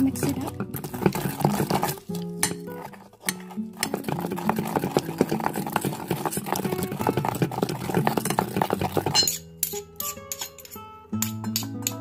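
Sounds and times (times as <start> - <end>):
metal spoon stirring thick paste: 0.0 - 12.0.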